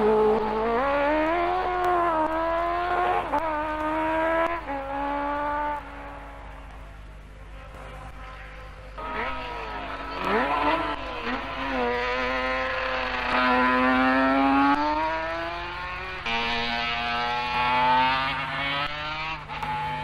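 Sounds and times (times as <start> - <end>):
racing engine at full throttle: 0.0 - 20.0.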